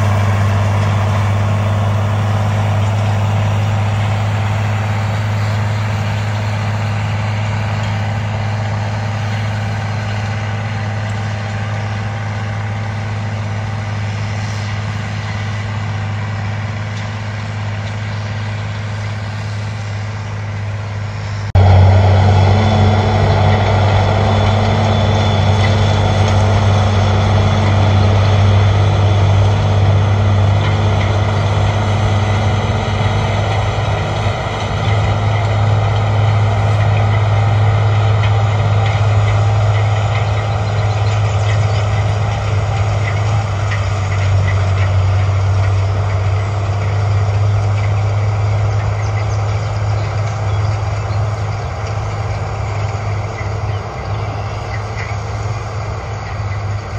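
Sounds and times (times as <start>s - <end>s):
tractor diesel engine drone: 0.0s - 56.9s.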